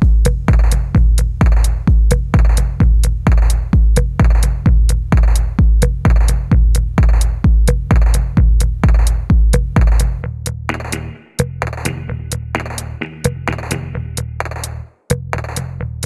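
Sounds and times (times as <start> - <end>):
heavy kick drum: 0.0 - 15.7
electronic dance music: 0.1 - 14.8.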